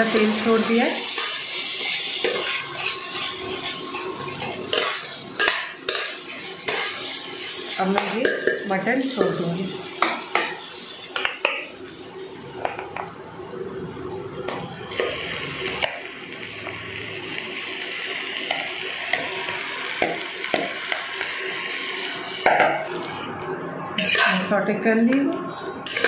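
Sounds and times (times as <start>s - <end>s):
meat sizzling in hot oil: 0.0s - 23.2s.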